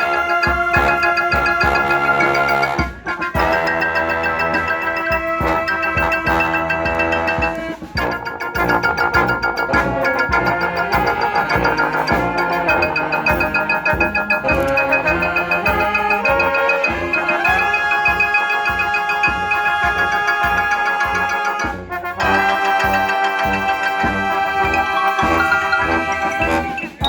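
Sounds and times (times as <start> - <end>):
brass band playing: 0.0 - 27.0
steady drum beat: 0.0 - 27.0.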